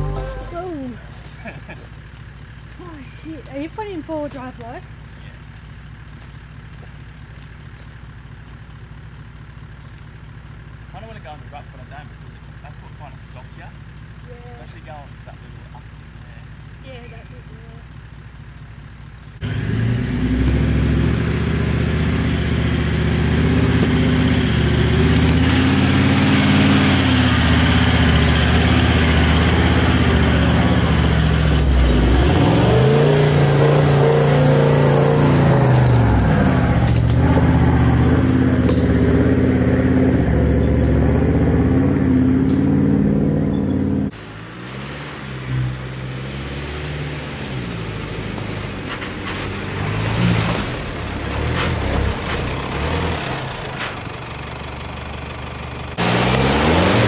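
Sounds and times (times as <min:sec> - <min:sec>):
off-road vehicle engine under load: 0:00.0 - 0:57.0.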